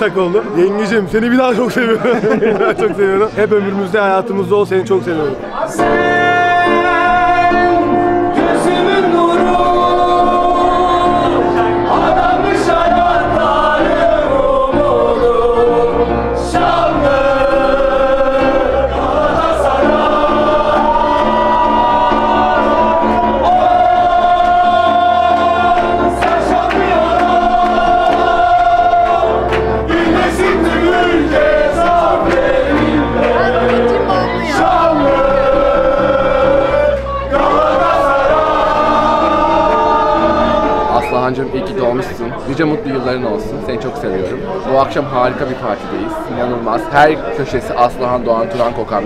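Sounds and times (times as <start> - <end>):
piano: 0.0 - 49.0
group singing along: 5.6 - 49.0
man singing: 5.8 - 49.0.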